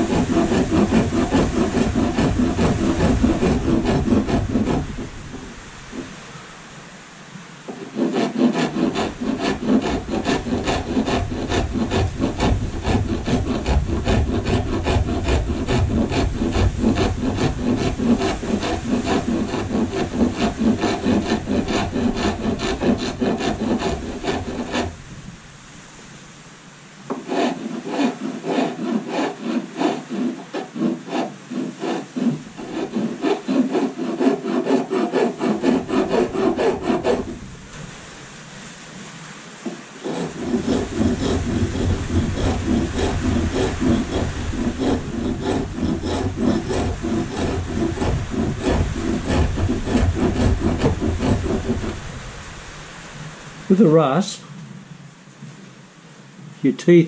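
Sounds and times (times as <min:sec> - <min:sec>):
hand rasp filing wood: 0:00.0 - 0:06.1, 0:07.7 - 0:25.0, 0:27.1 - 0:37.5, 0:39.6 - 0:52.1.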